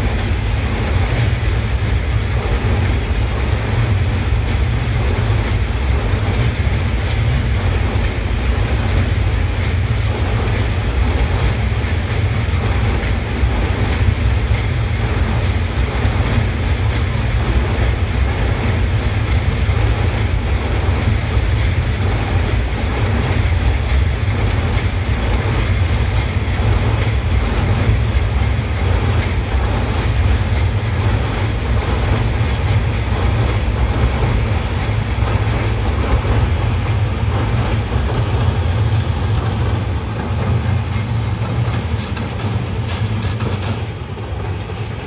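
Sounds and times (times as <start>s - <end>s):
freight train rumbling over bridge: 0.0s - 45.0s.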